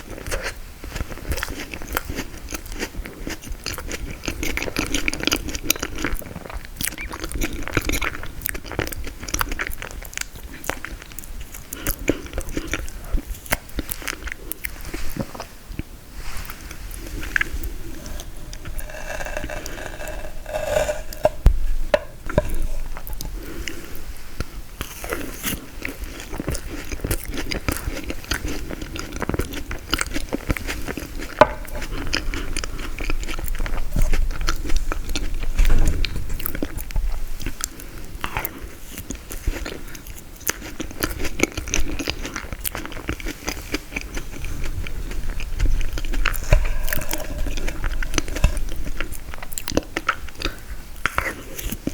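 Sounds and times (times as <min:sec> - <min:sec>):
eating crunchy frozen dessert: 0:00.0 - 0:51.9.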